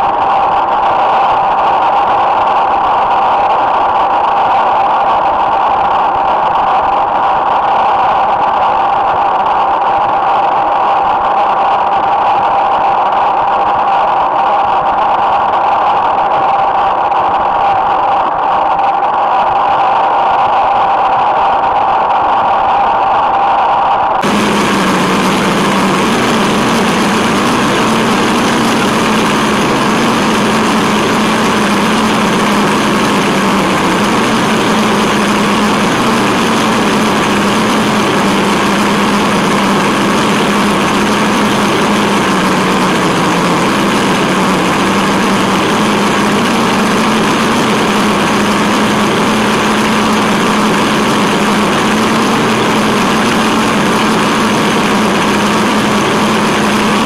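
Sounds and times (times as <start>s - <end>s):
electric drivetrain whine: 0.0s - 57.0s.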